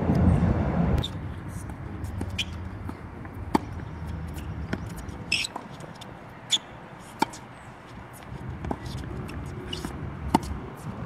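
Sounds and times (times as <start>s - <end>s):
tennis ball struck and bouncing: 2.0s - 11.0s.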